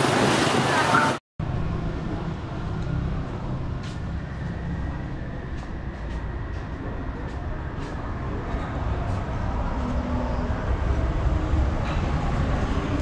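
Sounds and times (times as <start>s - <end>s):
low urban rumble: 1.4s - 13.0s.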